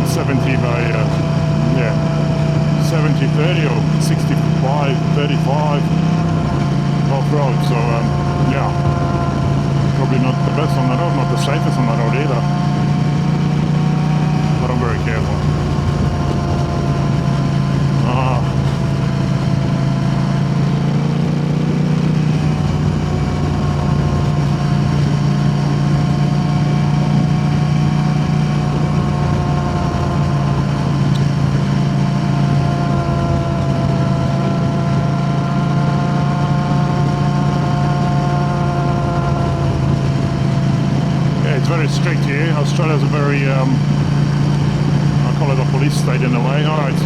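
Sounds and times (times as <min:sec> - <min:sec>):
motorcycle engine drone: 0:00.0 - 0:47.0.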